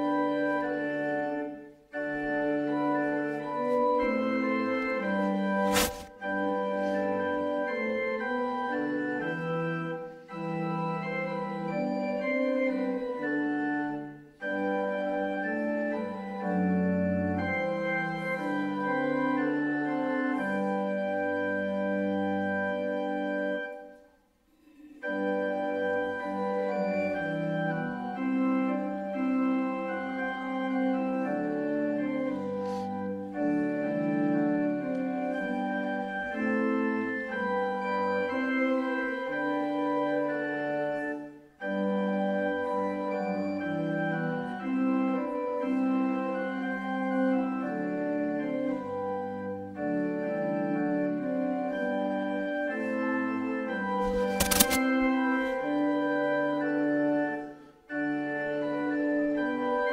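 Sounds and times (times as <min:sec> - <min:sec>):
church organ playing a hymn: 0:00.0 - 0:24.1, 0:24.8 - 0:59.9.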